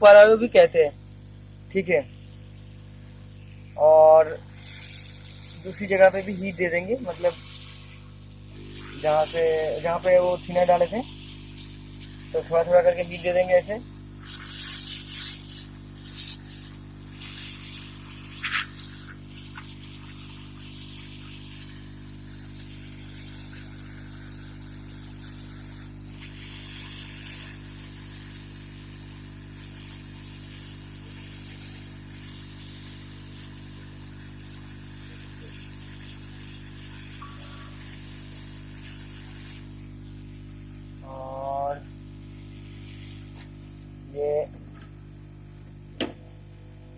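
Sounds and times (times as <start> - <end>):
hot air gun hissing: 0.0 - 44.5
electrical hum: 0.0 - 46.9.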